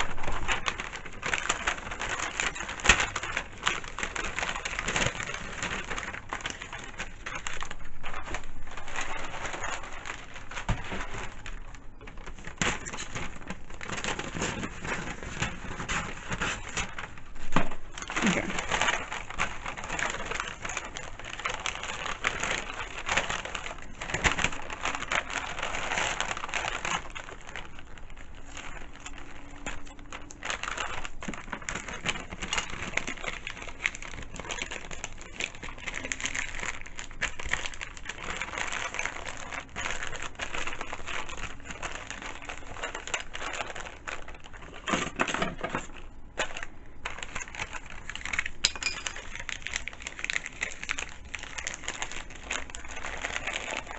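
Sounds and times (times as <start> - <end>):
wrapping paper rustling and crinkling: 0.0 - 53.9.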